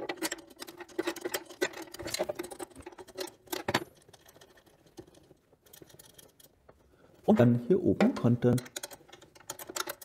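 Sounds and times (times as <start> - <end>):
small metallic clicks and scratching: 0.0 - 6.9, 8.4 - 10.0.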